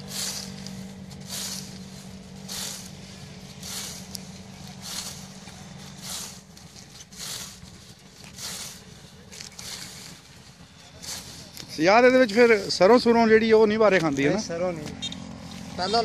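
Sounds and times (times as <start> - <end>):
blade swishing through clover: 0.0 - 13.1
steady low hum: 0.0 - 13.6.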